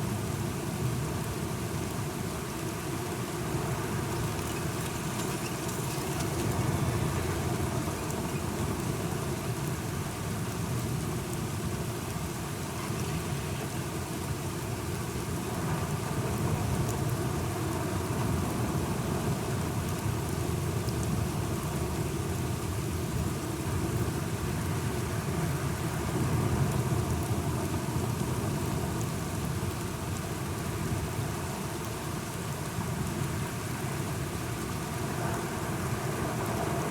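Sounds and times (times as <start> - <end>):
steady rainfall: 0.0 - 36.9.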